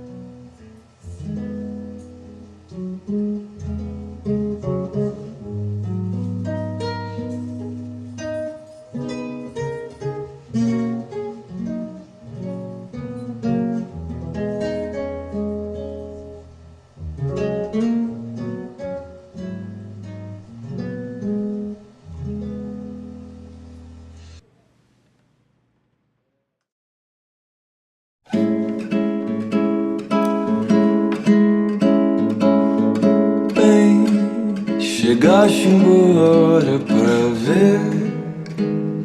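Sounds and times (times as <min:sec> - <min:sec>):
acoustic guitar playing: 0:00.0 - 0:24.7, 0:28.3 - 0:39.0.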